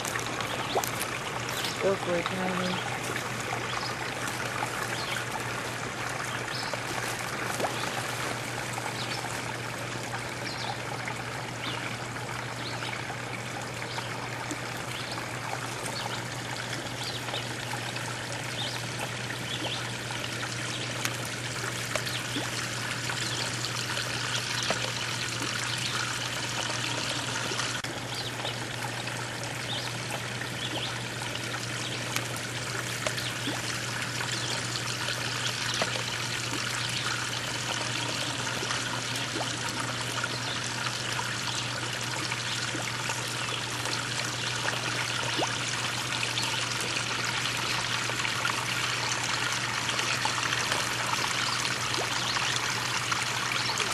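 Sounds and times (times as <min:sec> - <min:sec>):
drip-like ticks: 0:00.0 - 0:53.9
low steady hum: 0:00.0 - 0:53.9
water trickling and splashing: 0:00.0 - 0:53.9.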